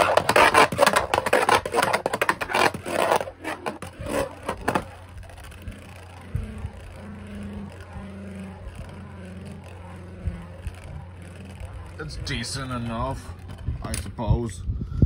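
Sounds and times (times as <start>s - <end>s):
spinning top clicking and rattling: 0.0s - 14.2s
spinning top whirring: 0.0s - 14.3s.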